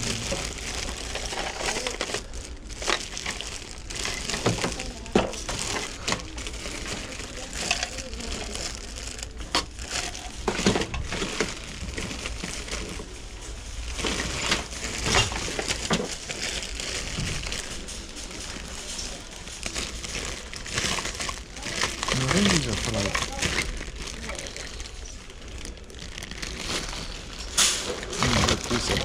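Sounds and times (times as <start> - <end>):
packaging rustling and crinkling: 0.0 - 29.0.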